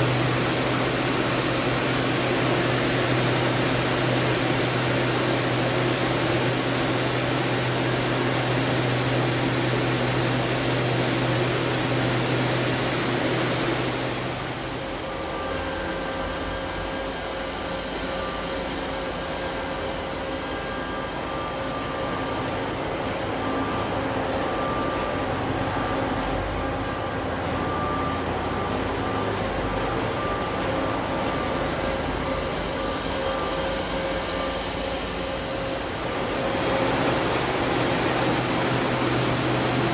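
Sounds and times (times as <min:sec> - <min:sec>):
high-pitched machine whines: 0:00.0 - 0:39.9
lathe machine whirr: 0:00.0 - 0:39.9
low machine hum: 0:00.0 - 0:39.9.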